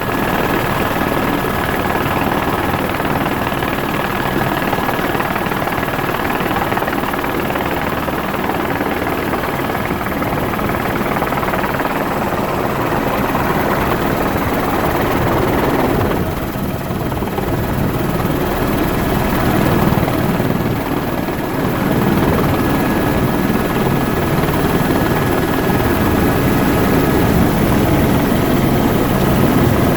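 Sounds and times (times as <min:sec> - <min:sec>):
helicopter rotor and engine: 0:00.0 - 0:29.9.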